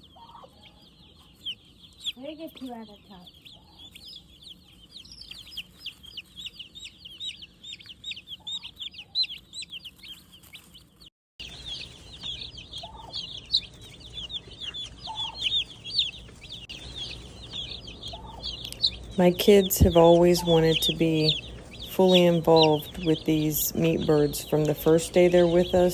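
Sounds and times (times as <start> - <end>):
chicks peeping: 0.0 - 25.9.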